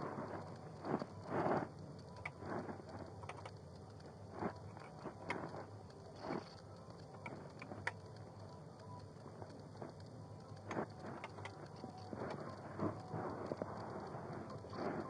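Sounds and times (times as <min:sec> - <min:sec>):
small clicks: 0:00.0 - 0:15.0.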